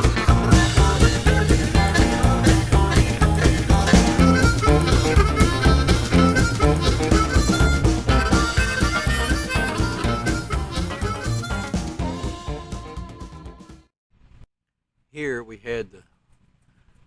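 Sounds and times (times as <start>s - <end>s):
steady bass beat: 0.0s - 13.7s
guitar: 0.0s - 13.8s
harmonica tune: 0.0s - 13.9s.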